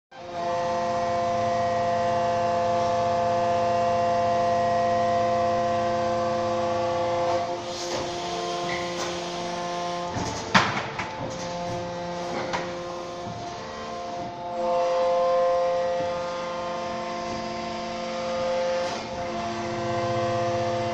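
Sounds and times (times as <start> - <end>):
machine hum: 0.1 - 20.9.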